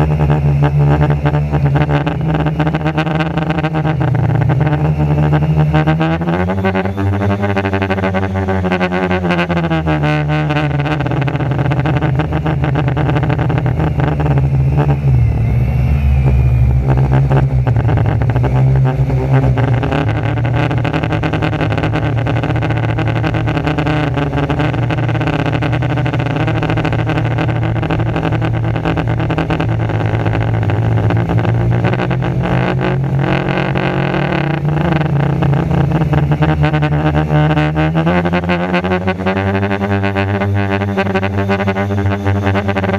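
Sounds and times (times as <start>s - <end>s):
quadcopter motor hum: 0.0s - 42.9s.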